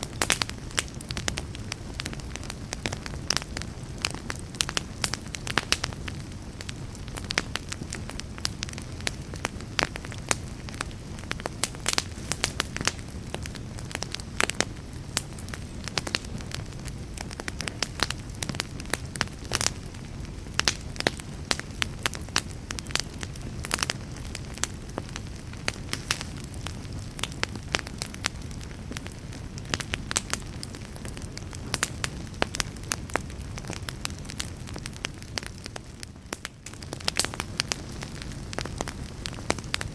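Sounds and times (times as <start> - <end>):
burning wood crackling and popping: 0.0 - 39.9
campfire low rumble: 0.0 - 39.9.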